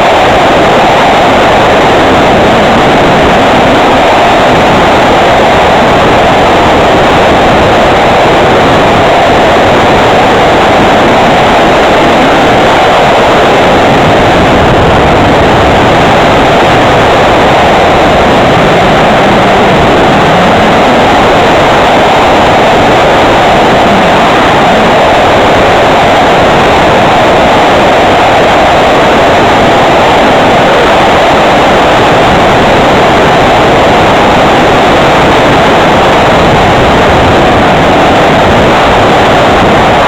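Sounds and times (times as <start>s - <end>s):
airflow rushing: 0.0s - 40.0s
model plane propeller: 0.0s - 40.0s.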